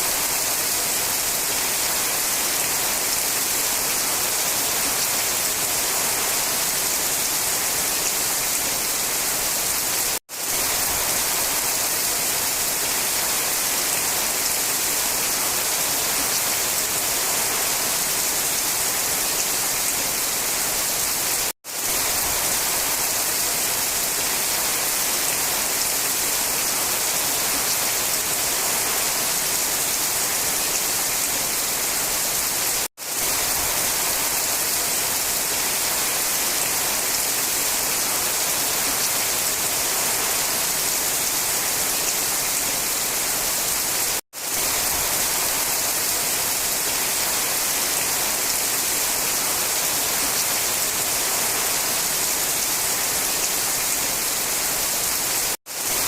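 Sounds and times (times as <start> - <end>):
steady rain in forest: 0.0 - 56.0.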